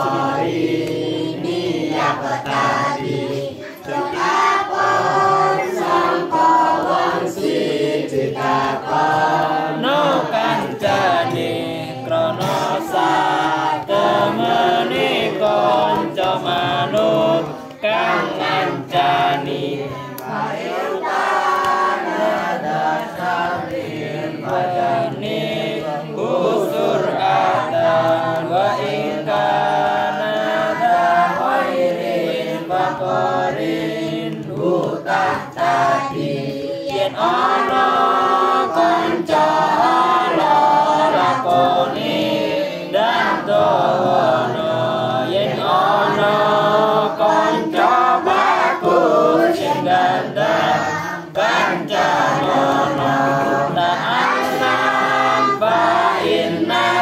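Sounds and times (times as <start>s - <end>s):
girls chanting in unison: 0.0s - 57.0s.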